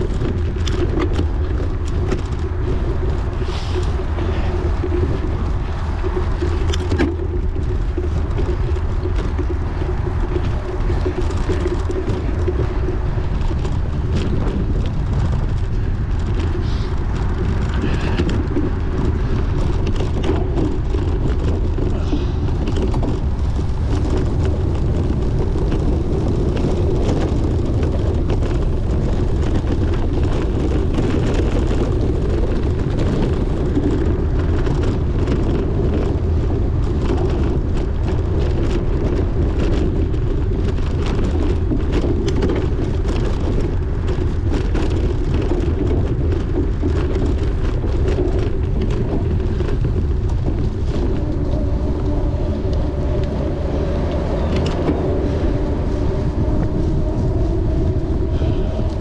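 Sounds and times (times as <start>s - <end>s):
bicycle rattling and clicking: 0.0s - 59.0s
wind rushing over microphone: 0.0s - 59.0s.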